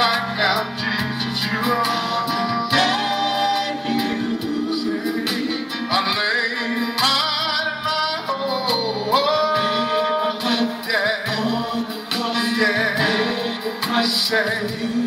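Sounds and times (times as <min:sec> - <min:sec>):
solo voice singing: 0:00.0 - 0:15.0.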